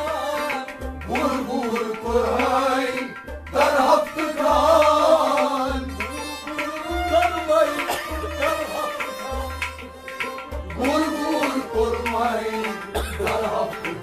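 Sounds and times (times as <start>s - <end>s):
bowed sarangi: 0.0s - 14.0s
goblet drum beat: 0.0s - 14.0s
harmonium: 0.0s - 14.0s
person singing: 0.0s - 14.0s.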